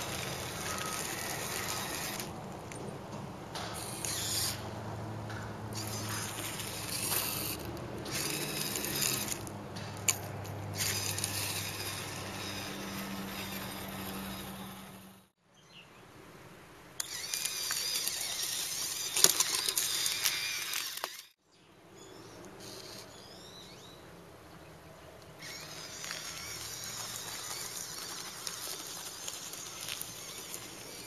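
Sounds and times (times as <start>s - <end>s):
dry leaves and twigs crackling: 0.0s - 15.0s, 17.0s - 21.4s, 25.2s - 31.0s
electric gear motors whirring: 0.0s - 15.3s, 17.0s - 21.4s, 22.4s - 23.8s, 25.3s - 31.0s
gravel crunching: 0.0s - 15.3s, 17.0s - 21.4s, 25.0s - 31.0s.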